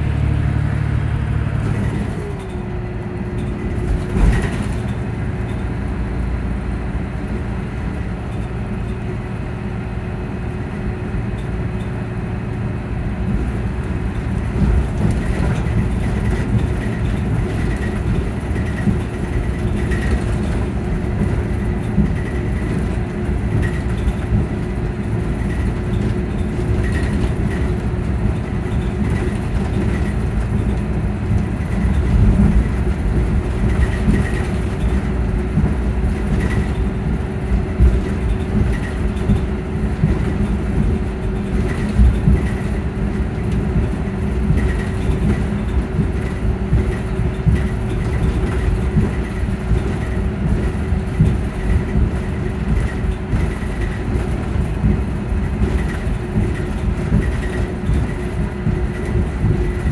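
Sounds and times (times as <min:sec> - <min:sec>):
engine cooling fan droning: 0:00.0 - 0:59.9.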